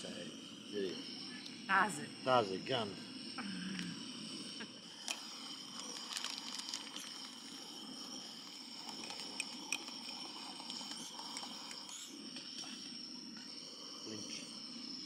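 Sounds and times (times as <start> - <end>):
gas burner hissing: 0.0 - 15.0.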